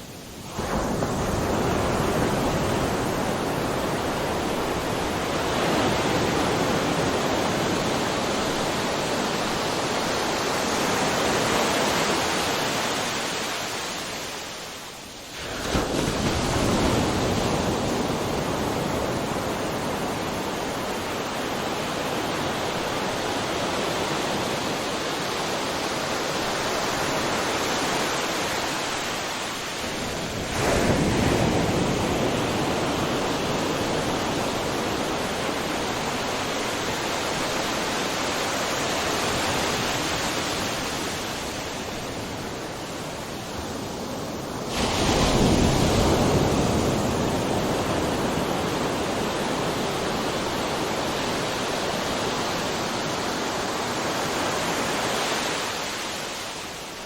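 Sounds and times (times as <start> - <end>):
ocean waves breaking: 0.4 - 14.6, 15.3 - 57.0.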